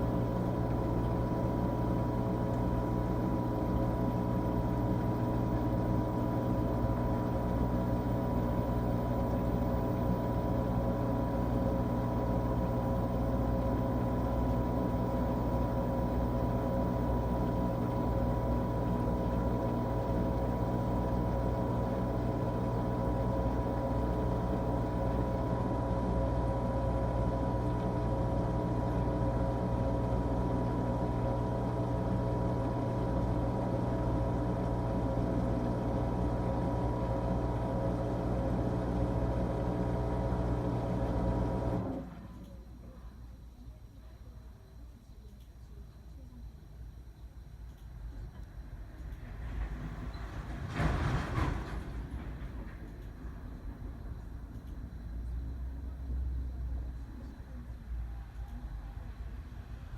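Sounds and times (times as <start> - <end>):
washing machine running: 0.0 - 43.1, 48.6 - 58.2.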